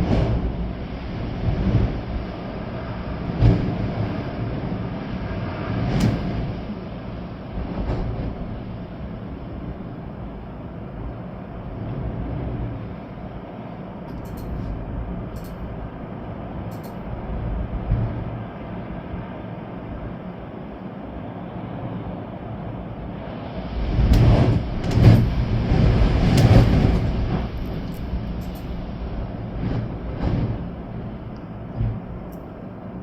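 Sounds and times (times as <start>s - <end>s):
rain: 0.0s - 33.0s
storm wind gusting through trees: 0.0s - 33.0s.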